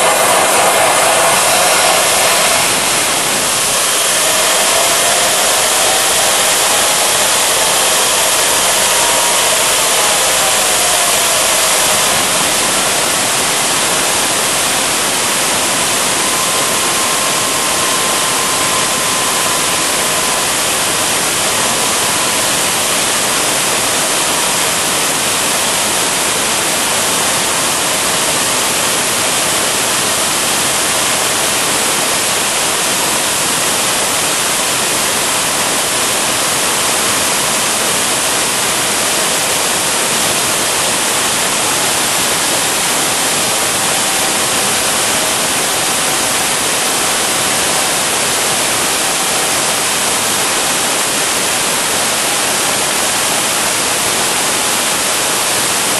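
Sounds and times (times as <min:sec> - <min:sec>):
faint turbine whine: 0:00.0 - 0:55.9
turbine rushing hiss: 0:00.0 - 0:55.9.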